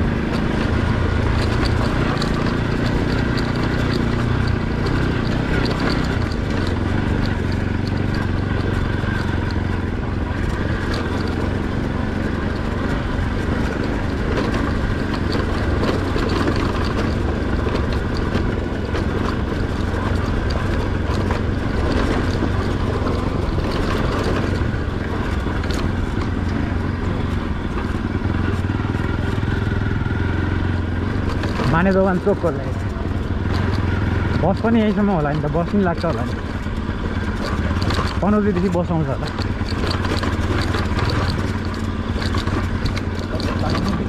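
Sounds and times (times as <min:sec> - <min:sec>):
motorcycle engine running: 0:00.0 - 0:44.0
road noise: 0:00.0 - 0:44.0.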